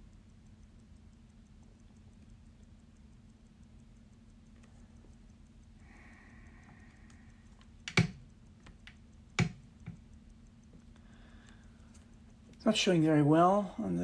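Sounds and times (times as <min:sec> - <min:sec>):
faint ticks: 0:00.0 - 0:14.0.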